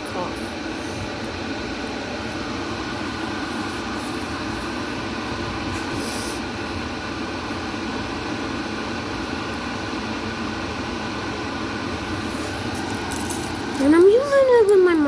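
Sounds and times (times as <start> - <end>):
electric kettle heating water: 0.0 - 15.0.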